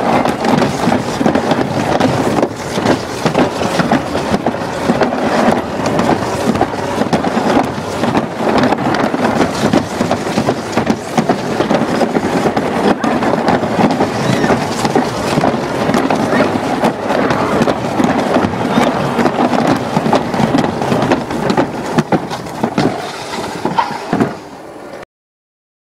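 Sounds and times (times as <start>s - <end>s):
sled rattling down track: 0.0s - 25.0s.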